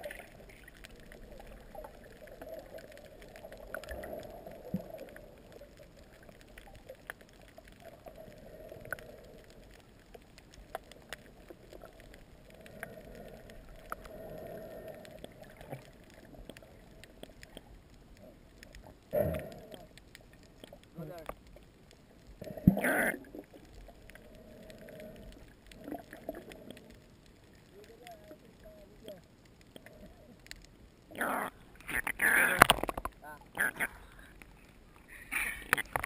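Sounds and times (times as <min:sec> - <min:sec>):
muffled underwater wash of water: 0:00.0 - 0:36.0.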